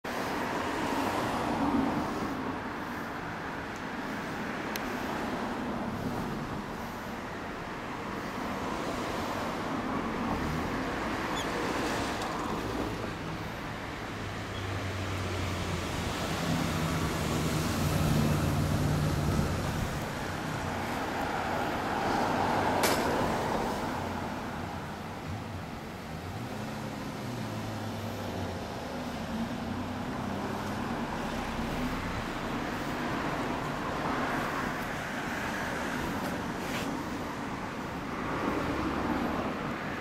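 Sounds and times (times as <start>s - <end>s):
vehicle engine hum: 0.4s - 40.0s.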